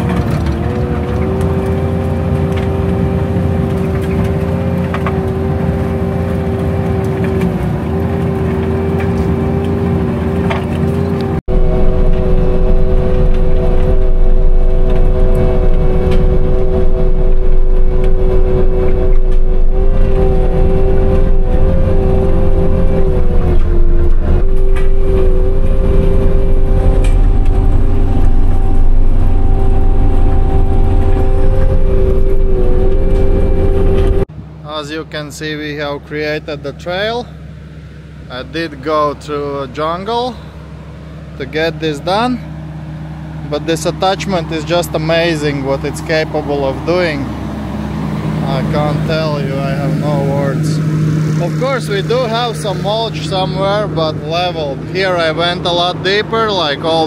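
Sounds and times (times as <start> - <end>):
engine and hydraulic whine: 0.0 - 57.0
low rumble: 0.0 - 57.0.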